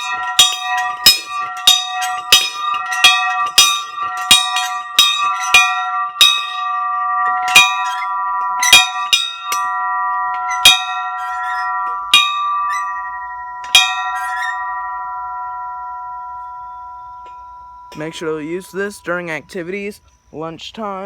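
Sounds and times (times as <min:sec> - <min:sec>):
bell ringing: 0:00.0 - 0:19.5.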